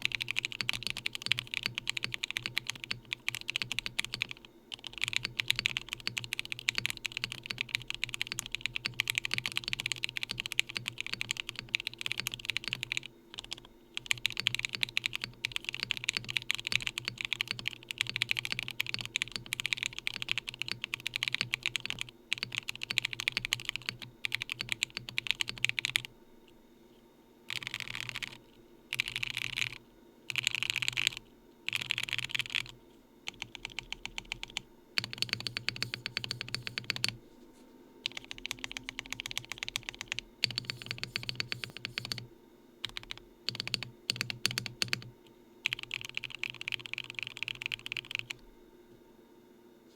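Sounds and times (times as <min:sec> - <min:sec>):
mechanical keyboard typing: 0:00.0 - 0:26.1, 0:27.5 - 0:37.2, 0:38.0 - 0:42.2, 0:42.8 - 0:48.4.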